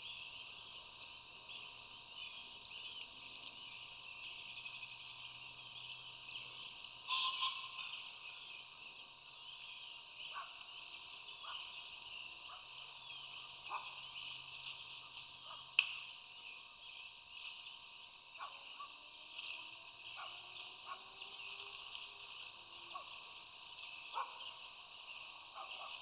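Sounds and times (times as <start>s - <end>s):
frogs trilling in chorus: 0.0s - 26.0s.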